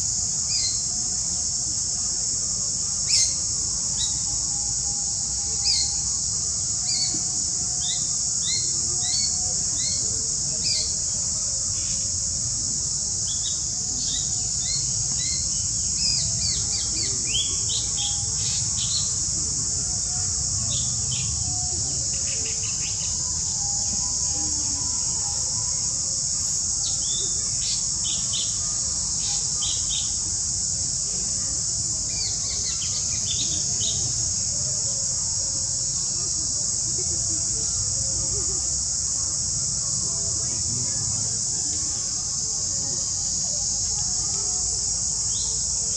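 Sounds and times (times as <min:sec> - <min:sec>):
high-pitched insect drone: 0:00.0 - 0:45.9.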